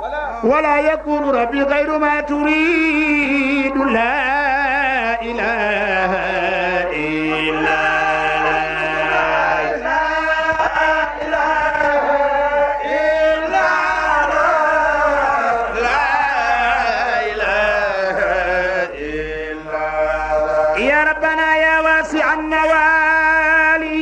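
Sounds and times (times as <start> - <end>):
person chanting melodically: 0.0 - 24.0.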